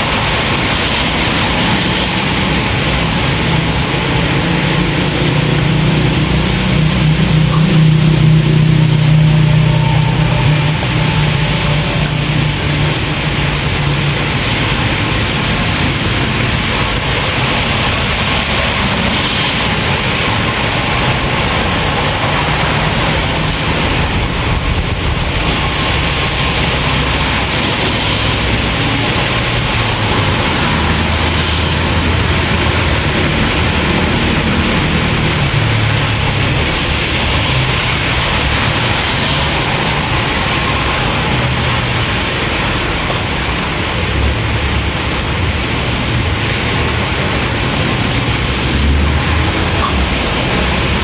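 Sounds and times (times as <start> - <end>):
heavy rain hissing: 0.0 - 51.0
low rumble: 0.0 - 51.0.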